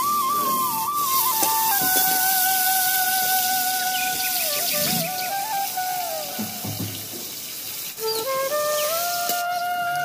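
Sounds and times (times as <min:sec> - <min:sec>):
slow melody of held notes: 0:00.0 - 0:07.2, 0:08.0 - 0:10.0.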